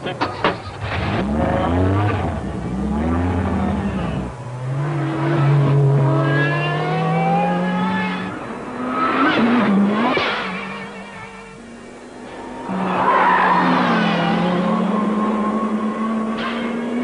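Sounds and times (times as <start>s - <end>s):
car engine accelerating: 0.7s - 17.0s.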